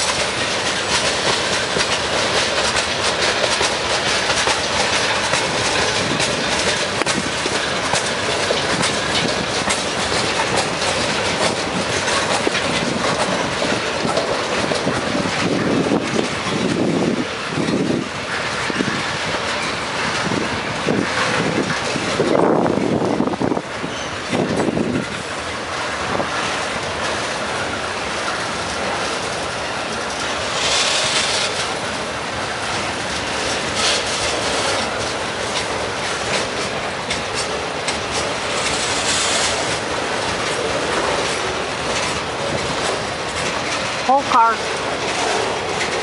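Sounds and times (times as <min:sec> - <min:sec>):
freight train wheels rolling on rails: 0:00.0 - 0:46.0.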